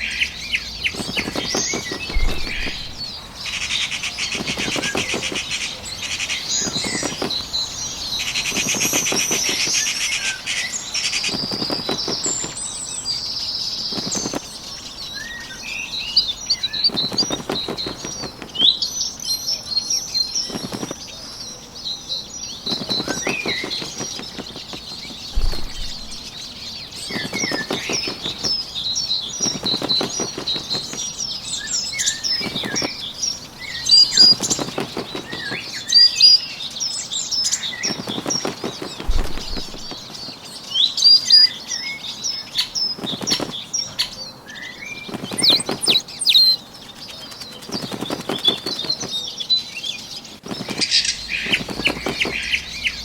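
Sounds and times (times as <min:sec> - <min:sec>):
small birds chirping: 0:00.0 - 0:53.0
bird wings flapping: 0:00.5 - 0:15.5, 0:16.2 - 0:19.0, 0:19.8 - 0:21.3, 0:22.4 - 0:41.5, 0:42.5 - 0:49.4, 0:50.1 - 0:53.0.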